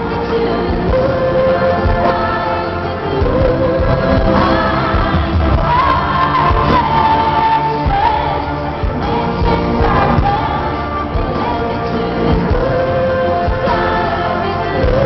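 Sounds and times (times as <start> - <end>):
live band music: 0.0 - 15.0
person singing long notes: 0.0 - 15.0.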